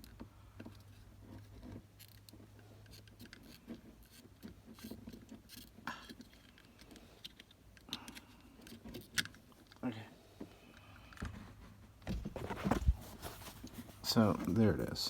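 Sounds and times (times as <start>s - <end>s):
plastic clicks and scrapes: 0.0s - 9.8s, 12.2s - 15.0s.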